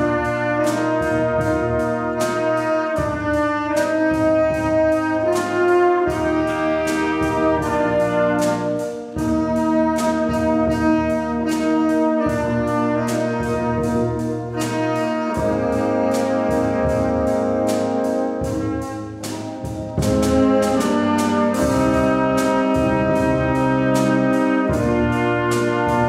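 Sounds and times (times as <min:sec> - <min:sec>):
brass band playing chords: 0:00.0 - 0:26.0
steady percussion beat: 0:00.0 - 0:26.0.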